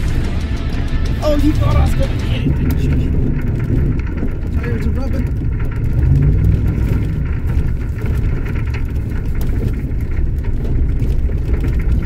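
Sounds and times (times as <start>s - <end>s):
truck body rattles and knocks: 0.0s - 12.0s
truck engine rumble: 0.0s - 12.0s.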